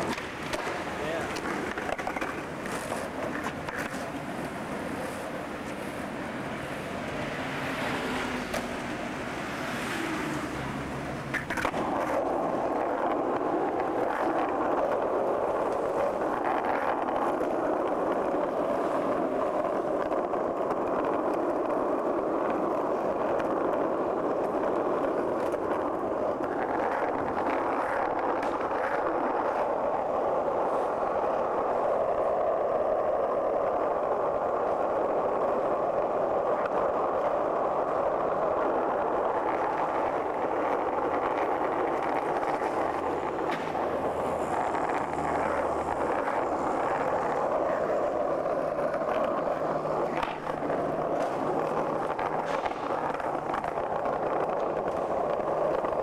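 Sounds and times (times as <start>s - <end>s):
skateboard wheels rolling on asphalt: 0.0s - 56.0s.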